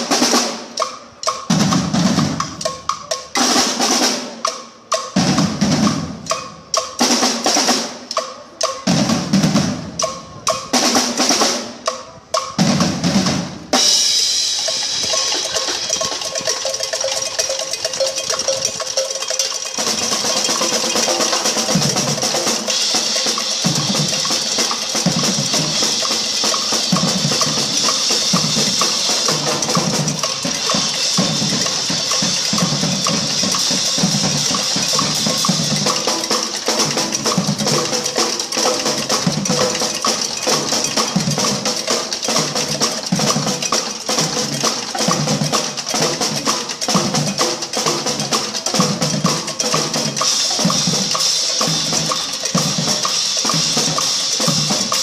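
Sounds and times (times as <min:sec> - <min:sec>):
drum ensemble playing: 0:00.0 - 0:55.0.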